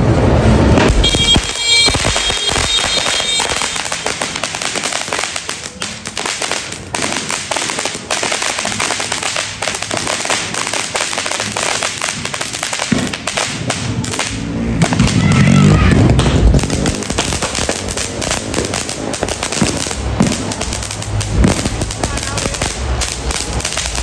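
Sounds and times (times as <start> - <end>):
firecrackers and fireworks bangs: 0.0 - 24.0.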